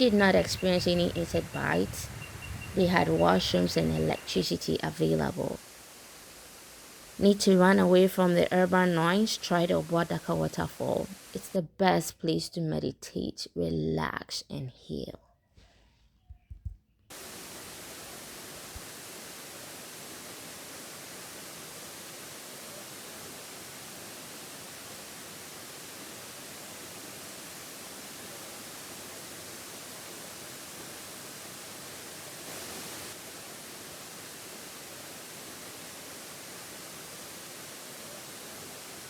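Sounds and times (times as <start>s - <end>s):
waterfall rushing water: 0.0s - 11.4s, 17.1s - 39.0s.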